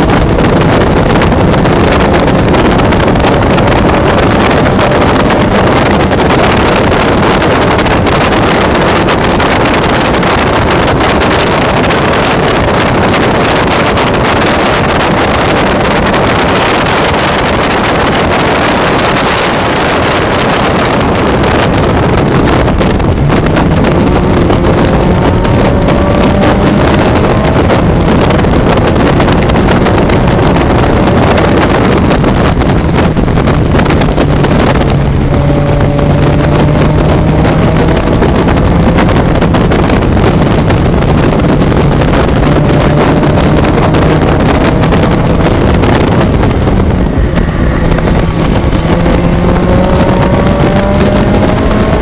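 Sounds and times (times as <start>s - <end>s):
race car engine at speed: 0.0s - 52.0s
wind rush on microphone: 0.0s - 52.0s.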